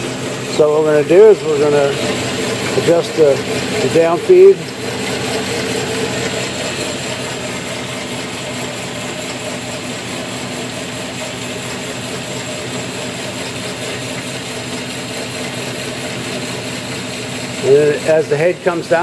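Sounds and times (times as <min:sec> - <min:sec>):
band saw motor humming: 0:00.0 - 0:19.0.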